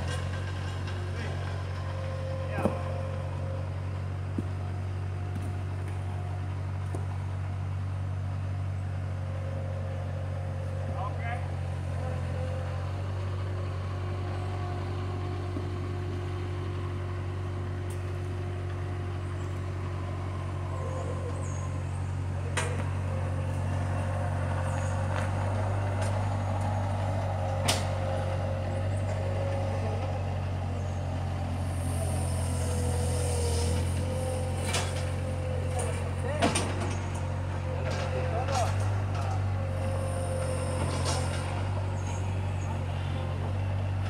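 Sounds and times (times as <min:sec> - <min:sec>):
skid-steer loader engine running: 0:00.0 - 0:44.0.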